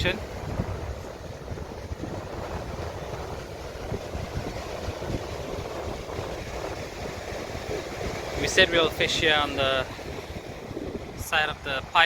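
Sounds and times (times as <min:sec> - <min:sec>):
rough surf: 0:00.0 - 0:12.0
wind buffeting microphone: 0:00.0 - 0:12.0.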